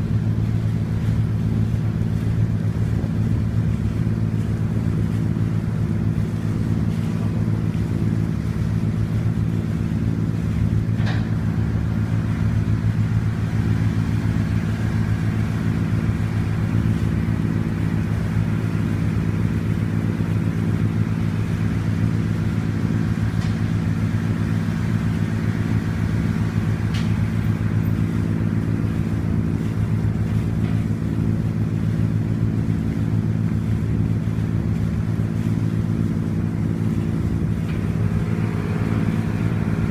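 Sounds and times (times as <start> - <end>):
ferry diesel engine drone: 0.0 - 39.9.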